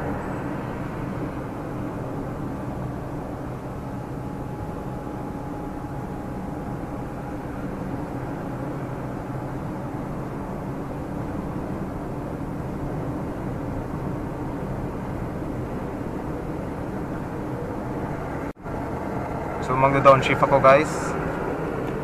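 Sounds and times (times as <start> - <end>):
car cabin engine and road drone: 0.0 - 22.0.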